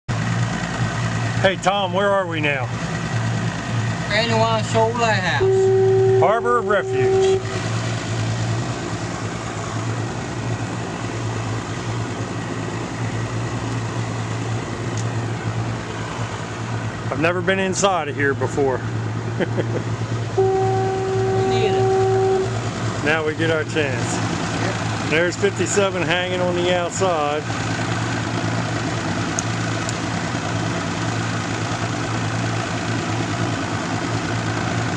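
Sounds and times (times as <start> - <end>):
boat engine droning: 0.3 - 34.9.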